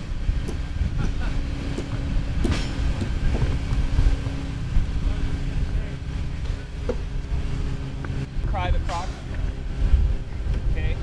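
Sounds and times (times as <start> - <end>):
low motor hum: 0.0 - 11.0
wind rumbling on microphone: 0.0 - 11.0.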